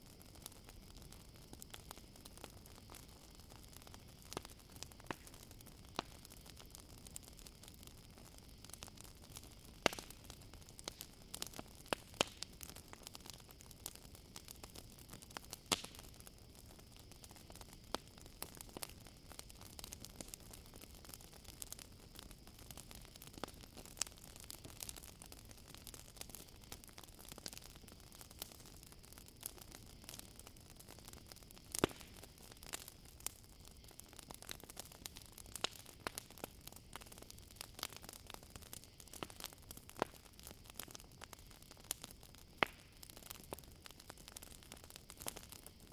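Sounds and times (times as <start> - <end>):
campfire crackling and popping: 0.0 - 45.9
crickets chirring: 0.1 - 45.9
loud fire snaps: 0.2 - 7.8, 8.4 - 45.9.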